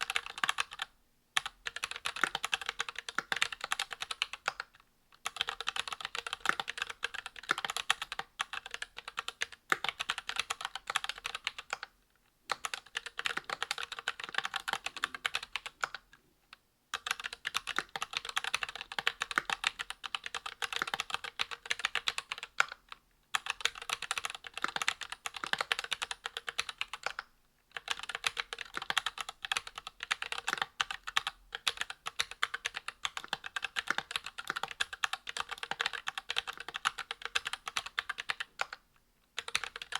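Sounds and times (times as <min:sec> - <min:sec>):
mechanical keyboard typing: 0:00.0 - 0:11.9, 0:12.5 - 0:16.0, 0:16.9 - 0:38.8, 0:39.4 - 0:39.9.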